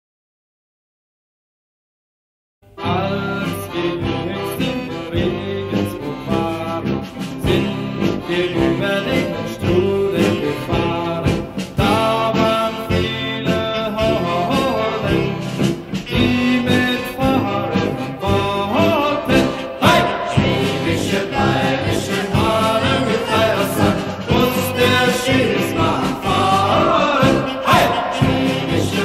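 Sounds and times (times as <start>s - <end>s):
music with steady beat: 2.8s - 29.0s.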